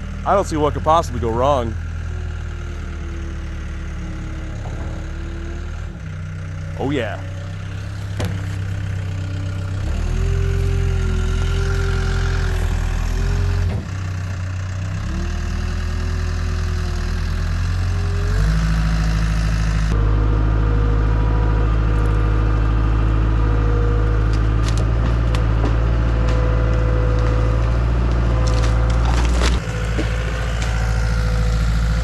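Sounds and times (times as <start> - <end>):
diesel engine under load: 0.0 - 32.0.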